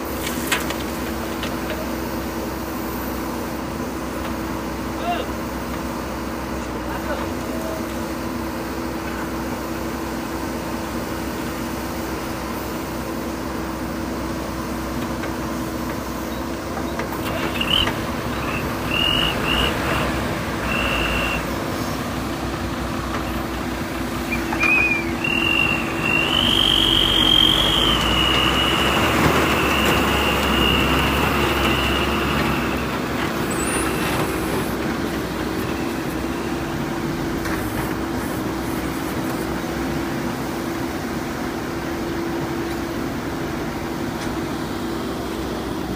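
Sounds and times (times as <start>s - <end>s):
diesel engine droning: 0.0s - 45.9s
truck diesel engine: 0.0s - 45.9s.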